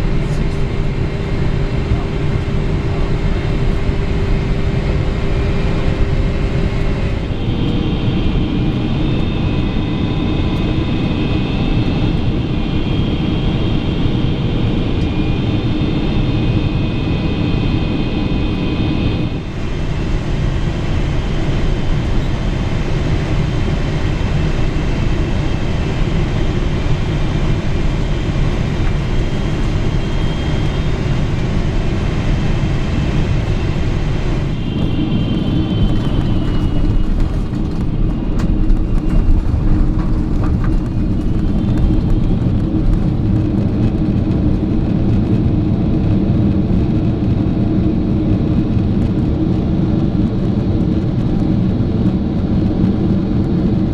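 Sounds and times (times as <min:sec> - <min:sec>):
aircraft cabin engine rumble: 0:00.0 - 0:53.9.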